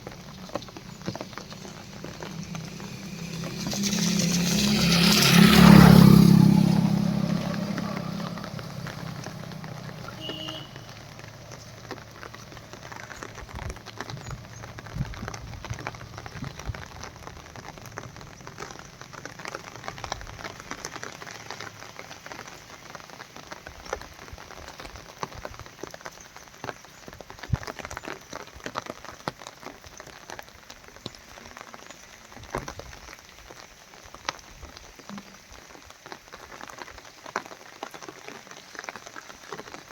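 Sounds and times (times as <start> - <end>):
rain drops hitting a surface: 0.0 - 39.9.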